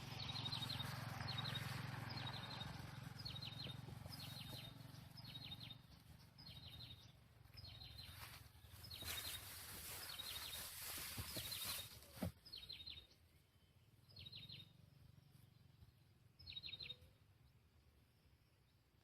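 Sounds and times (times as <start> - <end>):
small bird calling: 0.0 - 17.3.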